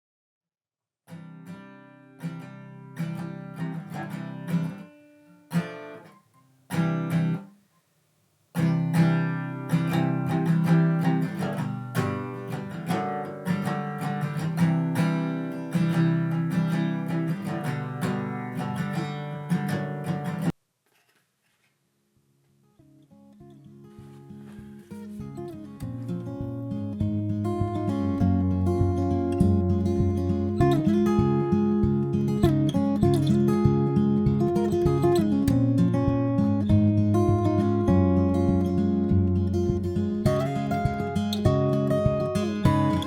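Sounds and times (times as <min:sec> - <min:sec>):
acoustic guitar strumming: 0:01.1 - 0:07.7, 0:08.5 - 0:20.5, 0:22.8 - 0:43.0.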